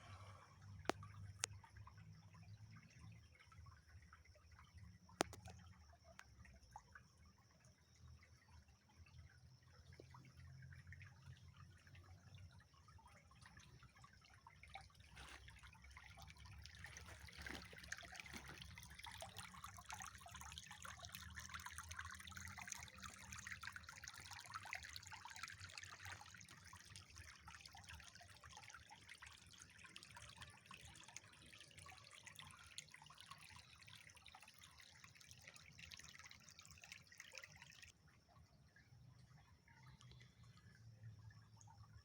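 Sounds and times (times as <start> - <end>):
water trickling and dripping: 0.0 - 42.0.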